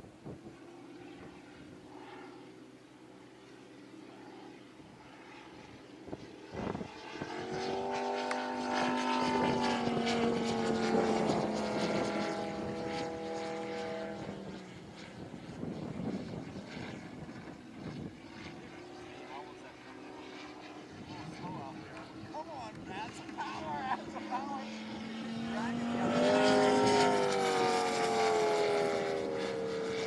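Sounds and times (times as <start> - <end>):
model plane engine passing overhead: 0.0 - 30.0.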